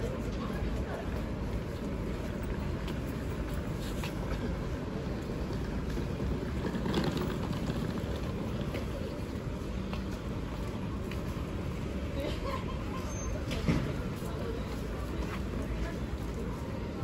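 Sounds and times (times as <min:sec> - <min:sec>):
busy city street rumble: 0:00.0 - 0:17.0.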